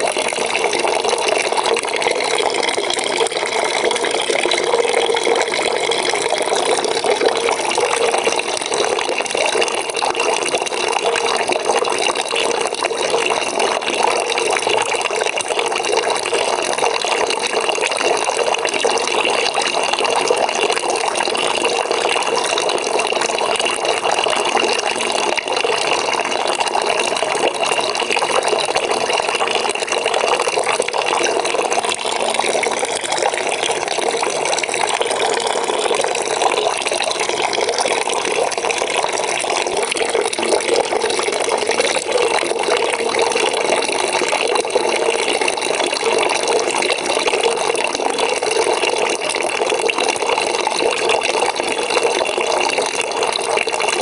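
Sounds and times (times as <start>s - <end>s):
tap water pouring into bucket: 0.0s - 54.0s.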